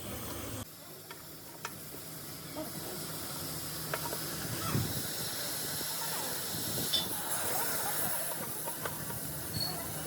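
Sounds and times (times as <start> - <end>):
steady hiss: 0.7 - 10.0.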